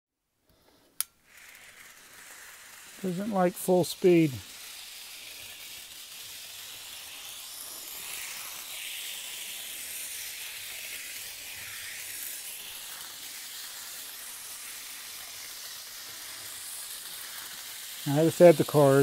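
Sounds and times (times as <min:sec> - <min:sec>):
model train motor whirring: 0:00.5 - 0:19.0
wheels hissing on rails: 0:00.5 - 0:19.0.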